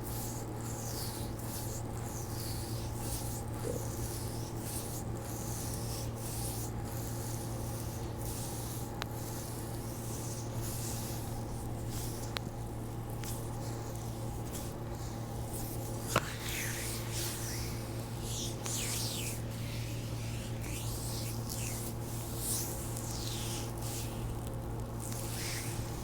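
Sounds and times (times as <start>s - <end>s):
low steady hum: 0.0s - 26.0s
hands rubbing skin: 0.1s - 26.0s.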